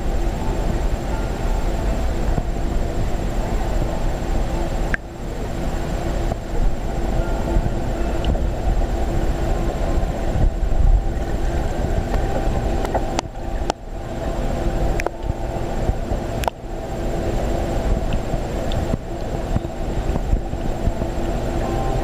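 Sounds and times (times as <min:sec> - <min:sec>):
faint steady hum: 0:00.0 - 0:22.0
muffled underwater rumble: 0:00.0 - 0:22.0.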